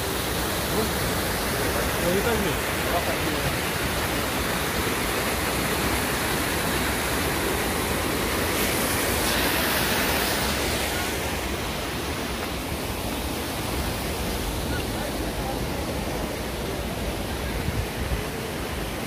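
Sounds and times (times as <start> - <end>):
water cascading over boulders: 0.0 - 19.0
waterfall rushing: 0.0 - 19.0.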